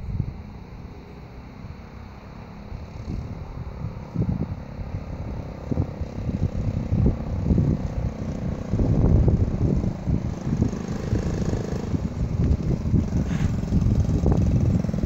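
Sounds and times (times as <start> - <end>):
minibike engine running: 0.0 - 15.0.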